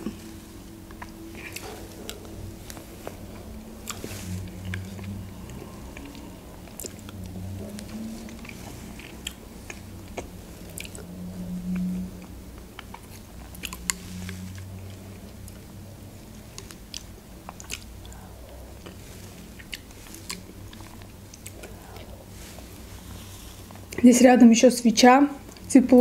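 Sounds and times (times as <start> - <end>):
chewing and wet mouth sounds: 0.0 - 24.1, 25.4 - 26.0.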